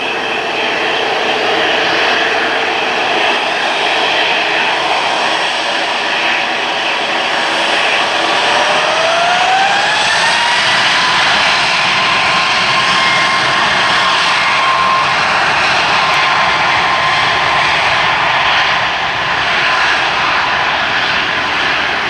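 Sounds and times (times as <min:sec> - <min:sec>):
jet engines spooling up: 0:00.0 - 0:22.0.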